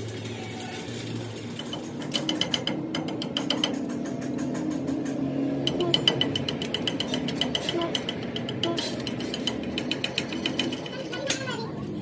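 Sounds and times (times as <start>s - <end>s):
rapid metallic ratcheting clicks: 0.0s - 11.6s.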